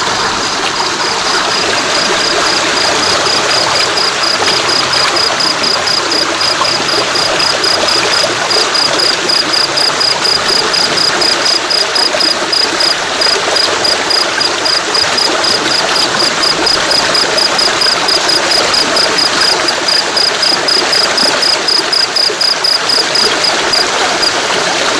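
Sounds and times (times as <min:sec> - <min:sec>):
flowing water rushing: 0:00.0 - 0:24.9
insect chirping: 0:01.3 - 0:24.7.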